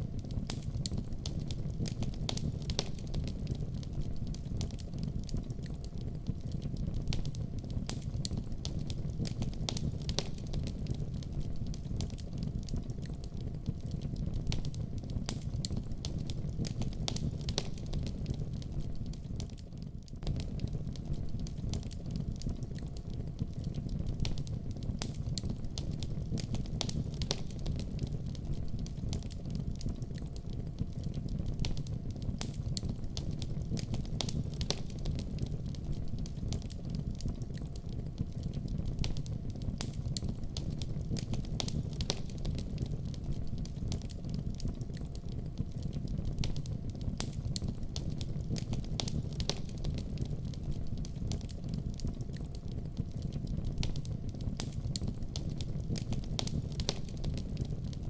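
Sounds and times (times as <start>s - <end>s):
logs crackling and popping: 0.1s - 58.0s.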